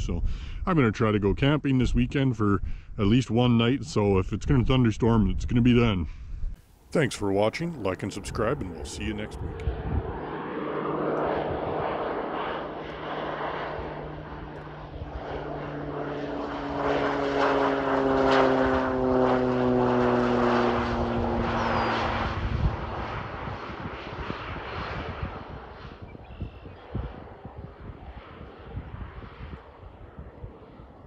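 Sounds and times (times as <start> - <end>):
plane engine and propeller drone: 0.0 - 31.0.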